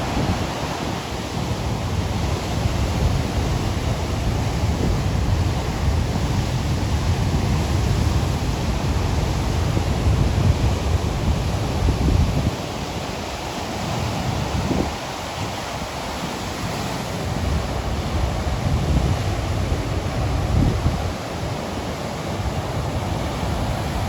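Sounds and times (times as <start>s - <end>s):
sea surf washing on shore: 0.0s - 24.0s
wind buffeting microphone: 0.0s - 24.0s.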